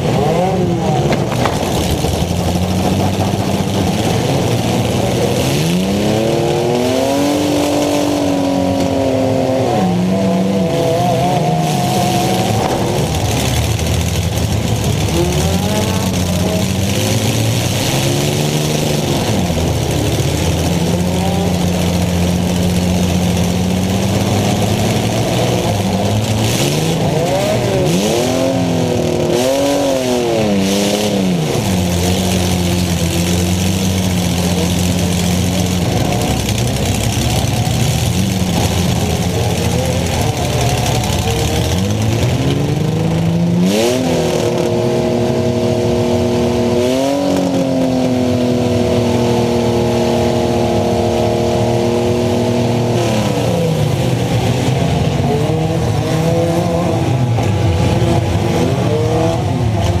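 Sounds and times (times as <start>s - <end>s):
car engine revving: 0.0s - 60.0s.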